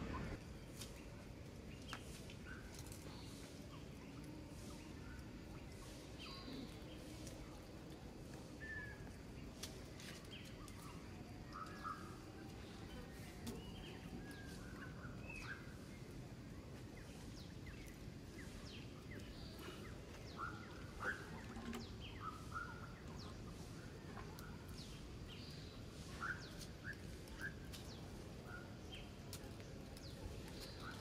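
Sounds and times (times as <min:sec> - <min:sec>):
outdoor background hiss: 0:00.0 - 0:31.0.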